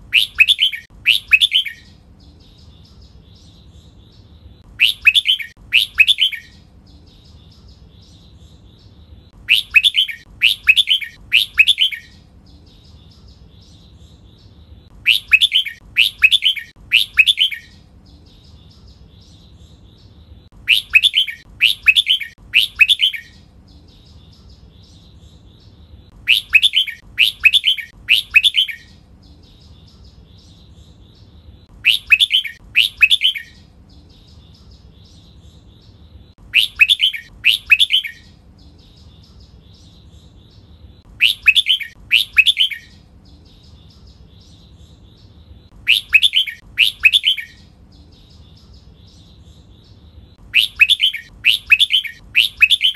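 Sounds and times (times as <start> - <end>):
bird singing falling notes: 0.0 - 4.0, 4.6 - 6.6, 7.2 - 14.0, 14.9 - 25.5, 26.1 - 30.7, 31.6 - 52.9
soft bird chattering: 0.0 - 52.9.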